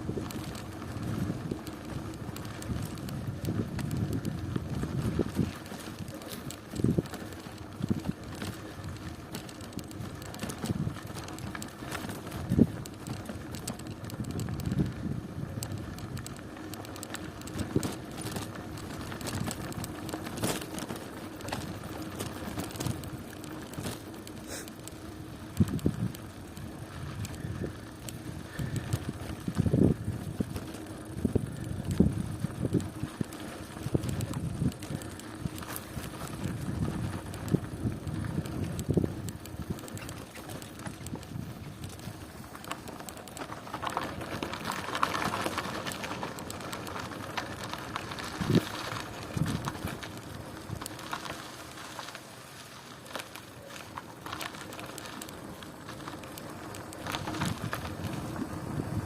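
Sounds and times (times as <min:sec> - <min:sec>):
bicycle knocks and rattles: 0:00.0 - 0:59.0
bicycle tyre noise: 0:00.0 - 0:59.0.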